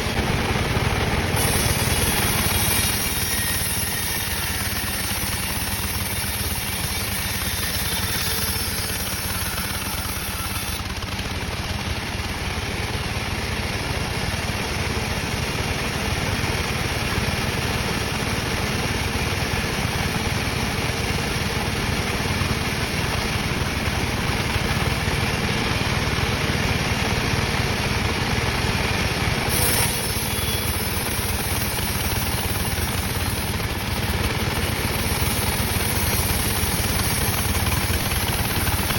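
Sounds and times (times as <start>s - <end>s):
sawmill saw machinery droning: 0.0s - 38.9s.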